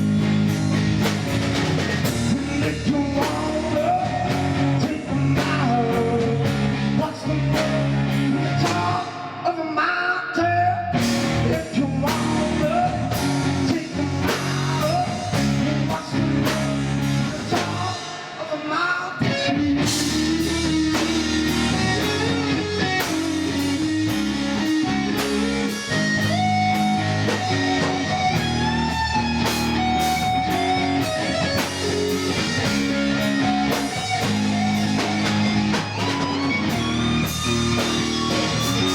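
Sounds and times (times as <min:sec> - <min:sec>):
drum kit beat: 0:00.0 - 0:09.2, 0:11.0 - 0:18.6, 0:19.8 - 0:38.9
blues-rock guitar: 0:00.0 - 0:38.9.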